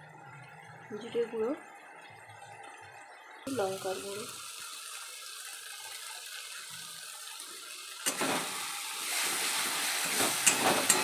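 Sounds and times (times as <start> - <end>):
food sizzling in hot oil: 0.8 - 11.0.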